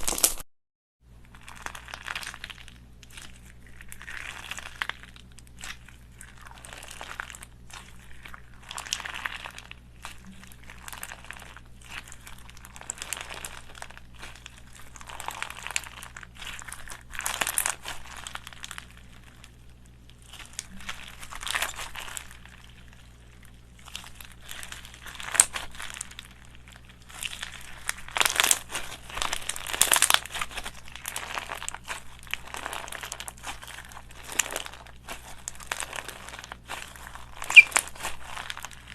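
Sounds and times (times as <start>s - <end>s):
slime squishing with pops: 1.3s - 38.9s.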